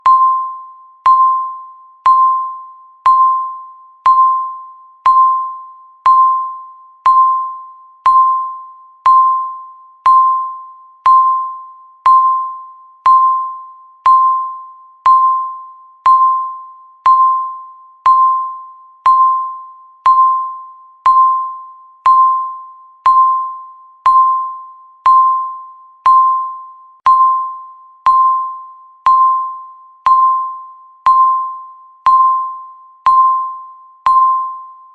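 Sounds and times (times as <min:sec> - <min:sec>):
timer beeps: 0:00.0 - 0:34.9.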